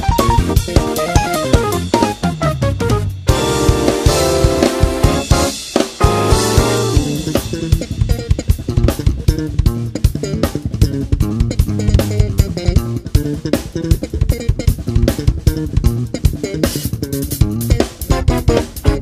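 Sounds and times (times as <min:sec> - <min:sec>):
drum kit: 0:00.0 - 0:19.0
electric bass line: 0:00.0 - 0:19.0.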